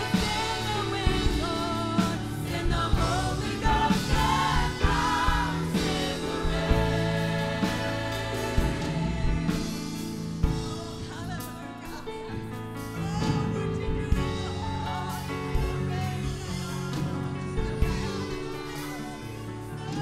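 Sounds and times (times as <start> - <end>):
choir singing gospel: 0.0 - 20.0
instrumental accompaniment with beat: 0.0 - 20.0.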